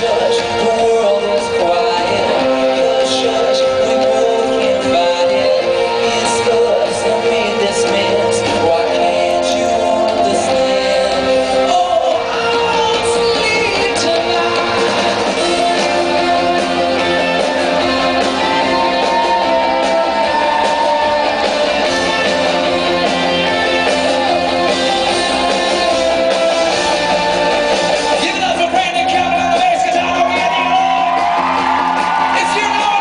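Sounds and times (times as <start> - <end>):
person singing: 0.0 - 26.8
drums: 0.0 - 33.0
electric guitars: 0.0 - 33.0.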